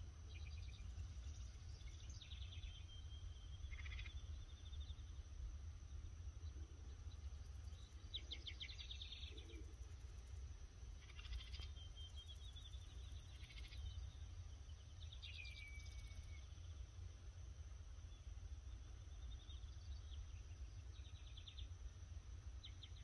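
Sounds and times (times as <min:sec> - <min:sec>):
low steady rumble: 0:00.0 - 0:23.0.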